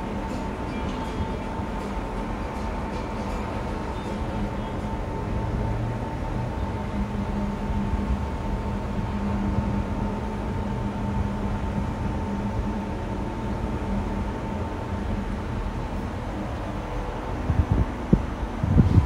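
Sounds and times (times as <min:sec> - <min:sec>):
higher whine: 0:00.0 - 0:19.0
steady hum: 0:00.0 - 0:19.0.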